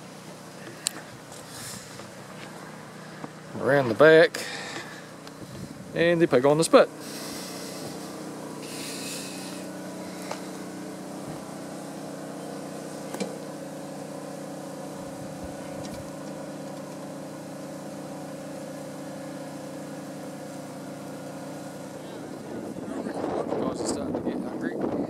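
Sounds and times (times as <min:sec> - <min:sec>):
motor humming steadily: 0:00.0 - 0:25.0.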